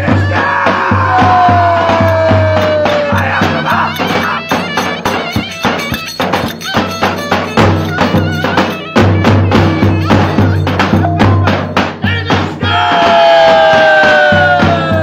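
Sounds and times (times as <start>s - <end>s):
folk dance music with percussion: 0.0s - 15.0s.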